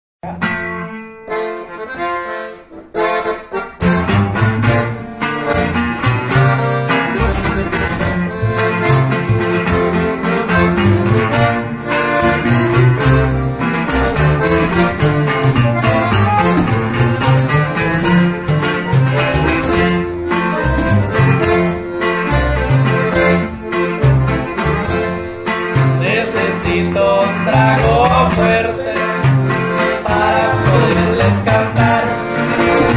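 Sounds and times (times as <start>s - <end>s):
guitar: 0.2s - 32.9s
upright bass line: 0.2s - 32.9s
button accordion: 0.3s - 32.9s.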